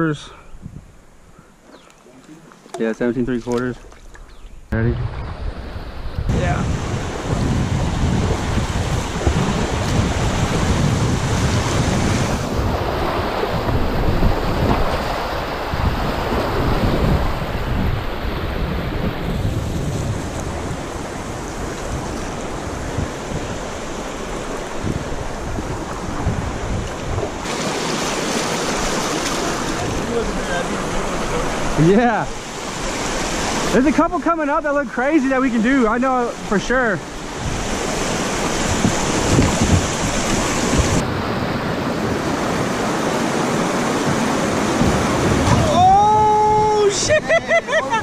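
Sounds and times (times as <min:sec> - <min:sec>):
wind buffeting the microphone: 0:00.6 - 0:01.2, 0:03.0 - 0:34.7, 0:35.5 - 0:48.0
rushing river water: 0:05.2 - 0:48.0.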